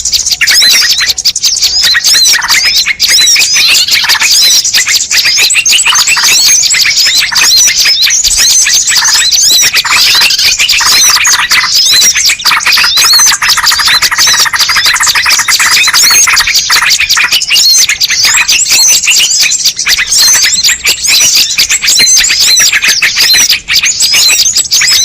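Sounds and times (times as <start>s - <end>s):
small birds chirping and twittering: 0.0s - 25.0s.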